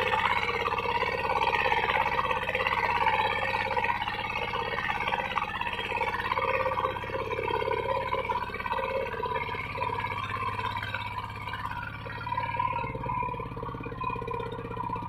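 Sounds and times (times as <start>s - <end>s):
diesel hand tractor engine running: 0.0s - 15.0s
rotary tiller churning soil: 0.0s - 15.0s.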